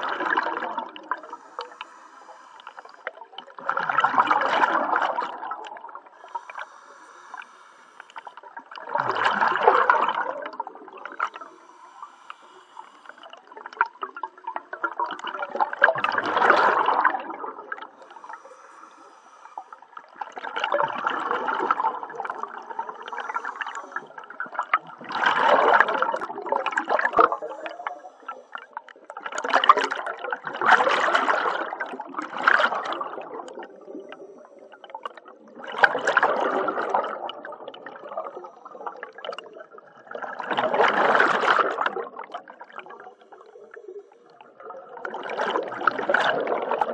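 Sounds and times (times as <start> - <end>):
regulator bubbles gurgling: 0.0 - 46.9.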